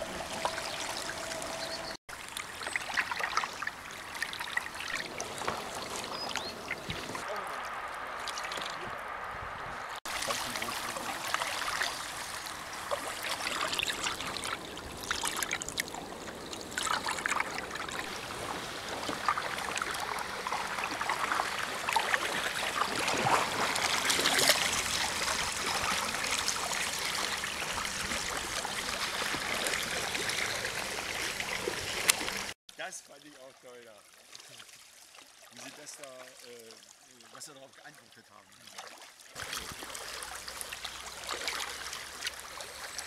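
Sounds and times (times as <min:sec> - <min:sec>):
water dripping off paddles: 0:00.0 - 0:09.2, 0:10.1 - 0:38.0
paddles splashing in water: 0:00.0 - 0:32.6, 0:38.5 - 0:43.0.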